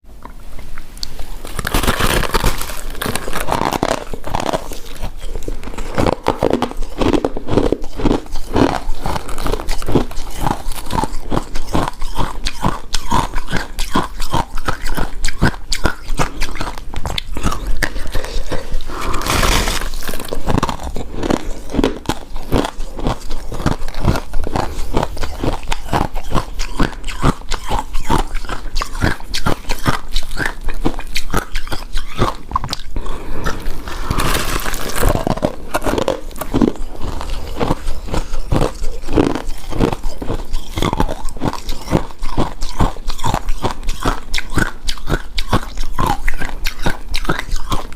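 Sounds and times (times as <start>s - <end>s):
crunching and chewing ice: 1.0s - 47.9s.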